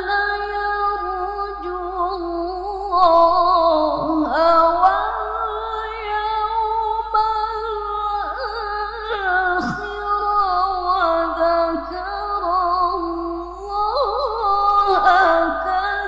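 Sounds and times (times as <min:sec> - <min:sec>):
woman reciting melodically: 0:00.0 - 0:16.0.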